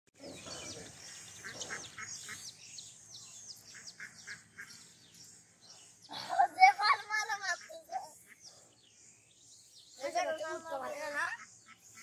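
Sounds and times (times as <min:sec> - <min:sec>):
ducklings and chicks peeping: 0:00.2 - 0:06.1, 0:06.9 - 0:12.0.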